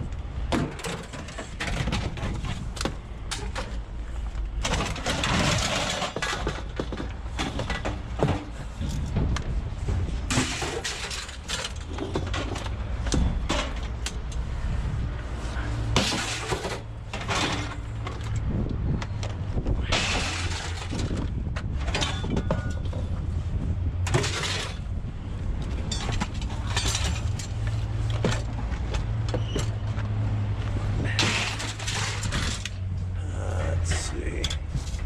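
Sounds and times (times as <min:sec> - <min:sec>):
scrap metal knocking and clanking: 0:00.5 - 0:14.5, 0:15.8 - 0:23.3, 0:24.0 - 0:30.1, 0:31.1 - 0:33.0.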